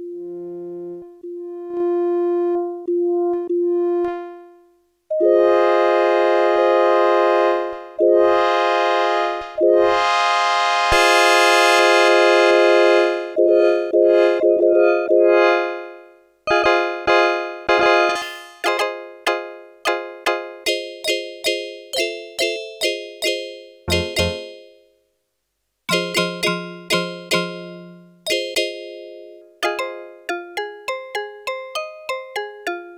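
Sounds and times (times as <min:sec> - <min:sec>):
electronic keyboard notes and chords: 0:05.1 - 0:24.7, 0:25.9 - 0:32.9.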